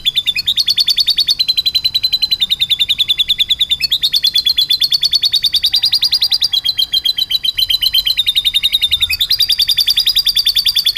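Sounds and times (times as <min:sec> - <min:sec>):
canary trilling: 0:00.0 - 0:10.9.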